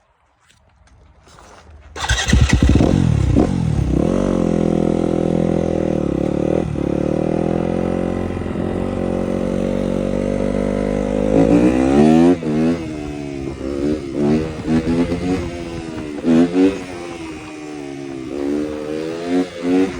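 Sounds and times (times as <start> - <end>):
motorcycle engine starting and revving: 1.9 - 19.9.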